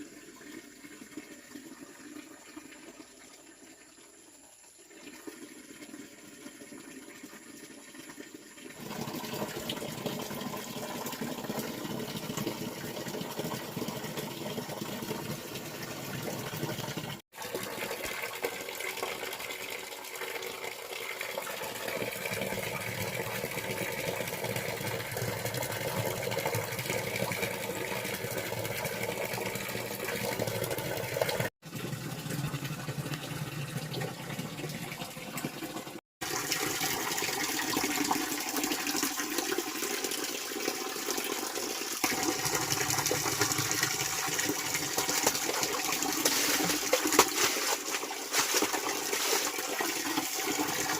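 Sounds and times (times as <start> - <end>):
water pouring: 0.0 - 50.9.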